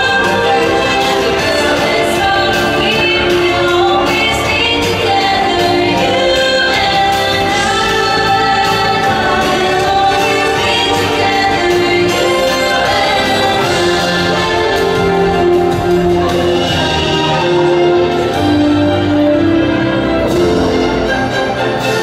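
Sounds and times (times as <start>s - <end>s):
choir singing with orchestral backing: 0.0s - 22.0s.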